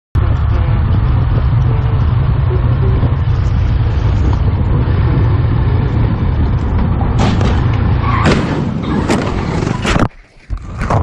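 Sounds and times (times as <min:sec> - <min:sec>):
motorcycle engine rumble: 0:00.2 - 0:10.0.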